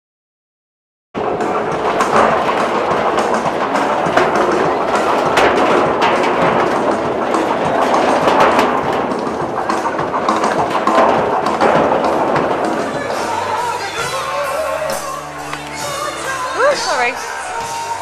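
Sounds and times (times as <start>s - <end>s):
steel drums rolling on asphalt: 1.2s - 18.0s.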